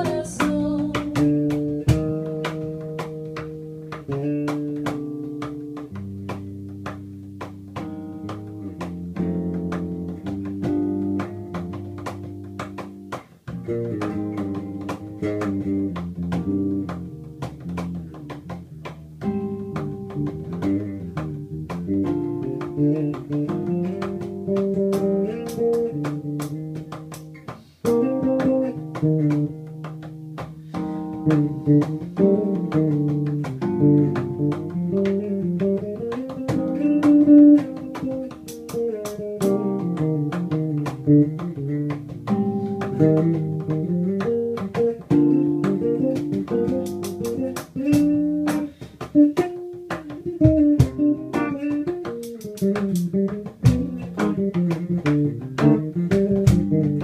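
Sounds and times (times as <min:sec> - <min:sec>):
cajon hits: 0:00.0 - 0:57.0
guitar: 0:00.0 - 0:57.0
upright bass: 0:00.0 - 0:57.0.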